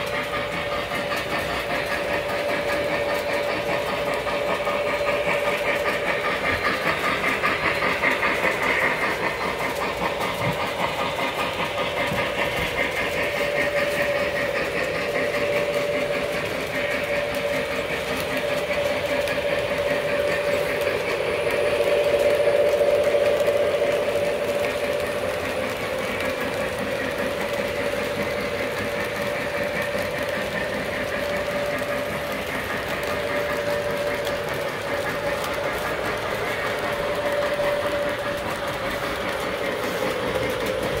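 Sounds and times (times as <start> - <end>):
model train motor whine: 0.0 - 41.0
wheels clattering on rails: 0.0 - 41.0.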